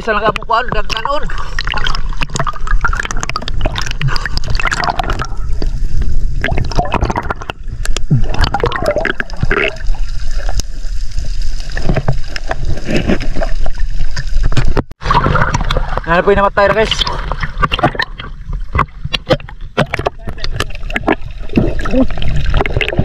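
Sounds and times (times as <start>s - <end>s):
underwater gurgling and sloshing: 0.0s - 23.0s.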